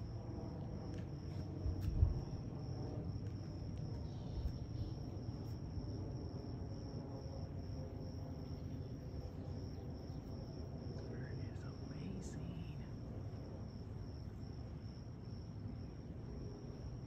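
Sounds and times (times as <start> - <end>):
high-pitched insect trill: 0.0 - 17.0
low background rumble: 0.0 - 17.0.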